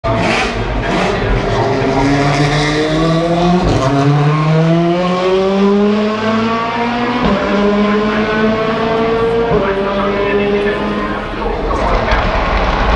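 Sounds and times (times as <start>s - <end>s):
race cars accelerating: 0.0s - 12.9s.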